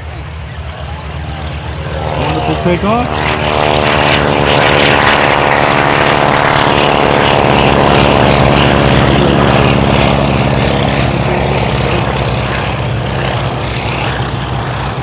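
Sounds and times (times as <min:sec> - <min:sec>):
biplane engines droning: 0:00.0 - 0:15.0.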